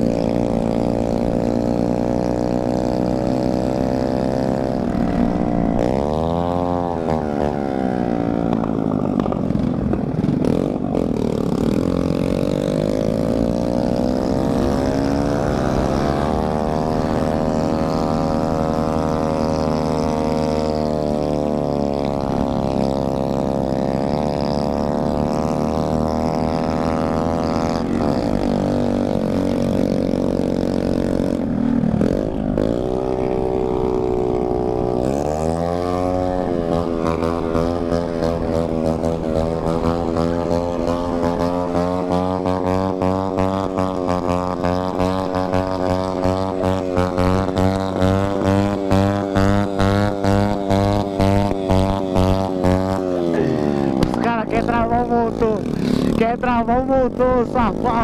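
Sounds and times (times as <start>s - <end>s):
small motorcycle engine running: 0.0s - 58.0s.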